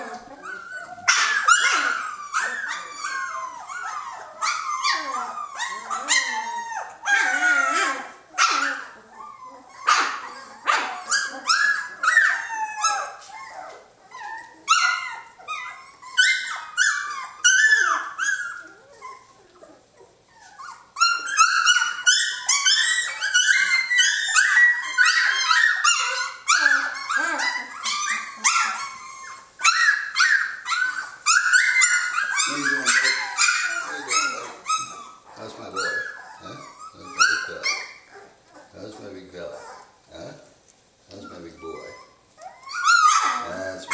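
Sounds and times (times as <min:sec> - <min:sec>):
puppies squealing and yelping: 0:00.0 - 0:43.9.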